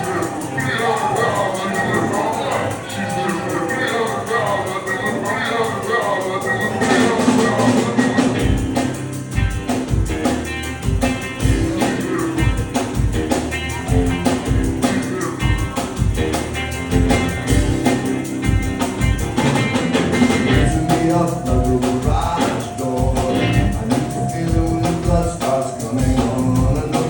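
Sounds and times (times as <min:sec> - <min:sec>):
drum kit beat: 0:00.0 - 0:27.0
guitar: 0:00.0 - 0:27.0
rock band playing: 0:00.0 - 0:27.0.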